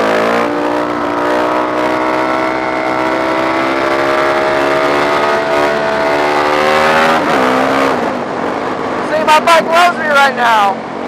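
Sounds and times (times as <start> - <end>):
motorcycle engine accelerating: 0.0 - 9.7.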